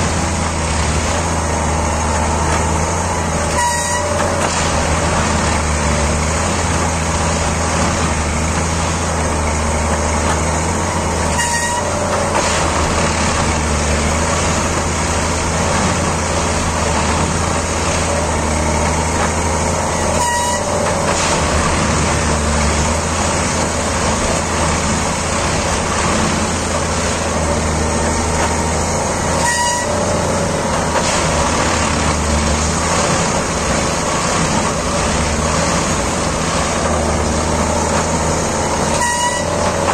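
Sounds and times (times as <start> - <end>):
track machine engine noise: 0.0 - 39.9.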